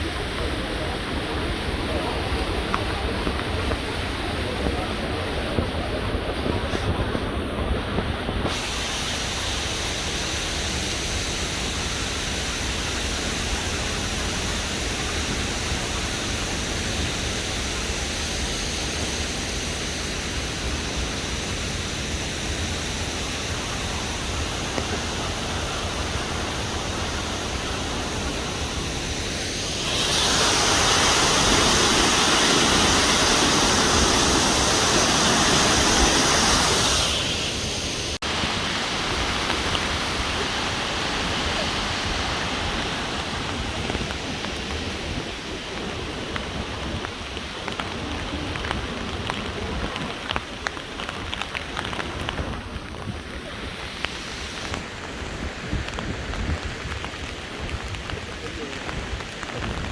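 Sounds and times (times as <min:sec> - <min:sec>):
waterfall rushing: 0:07.3 - 0:51.2, 0:51.8 - 0:59.9.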